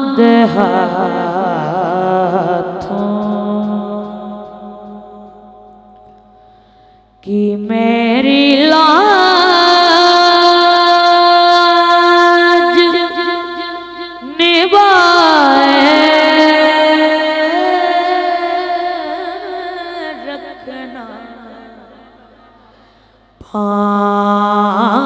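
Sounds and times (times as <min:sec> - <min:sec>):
boy singing into a microphone: 0:00.0 - 0:05.7, 0:07.2 - 0:22.6, 0:23.4 - 0:25.0.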